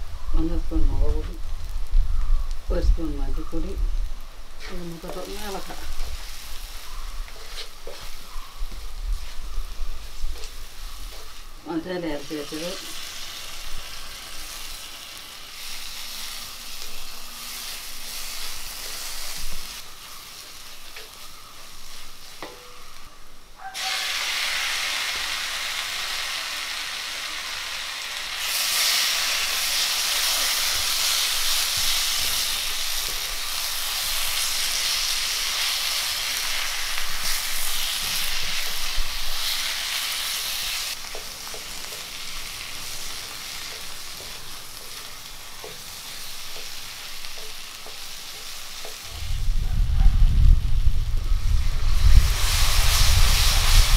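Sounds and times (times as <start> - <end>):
masala sizzling in hot oil: 0.0 - 53.9.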